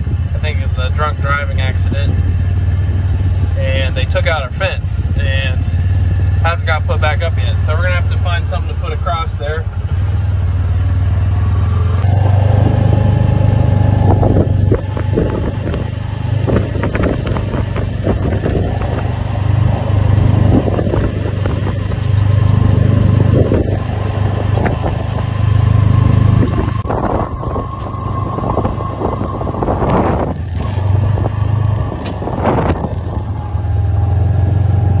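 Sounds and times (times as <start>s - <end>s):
utility vehicle engine drone: 0.0s - 35.0s.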